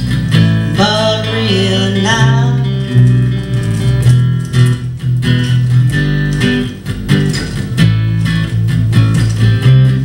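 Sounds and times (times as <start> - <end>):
bass guitar line: 0.0 - 10.0
strummed guitar chords: 0.0 - 10.0.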